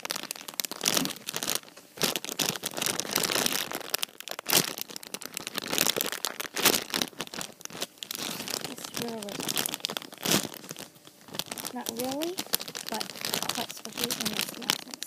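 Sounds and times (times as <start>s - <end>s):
plastic packaging crinkling: 0.0s - 15.0s
squishy toy squeezed: 0.0s - 15.0s.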